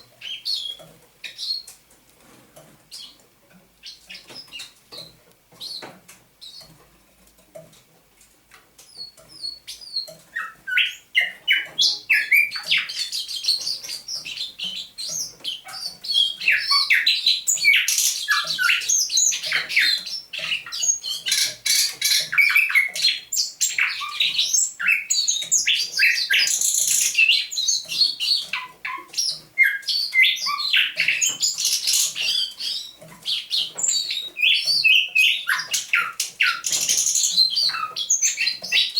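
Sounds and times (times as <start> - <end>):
nightingale singing: 0.0 - 1.8, 8.9 - 38.9.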